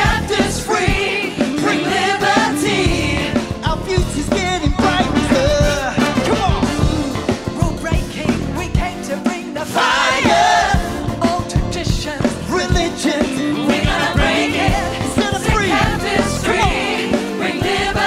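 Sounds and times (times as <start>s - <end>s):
steady drum beat: 0.0s - 18.0s
worship band playing: 0.0s - 18.0s.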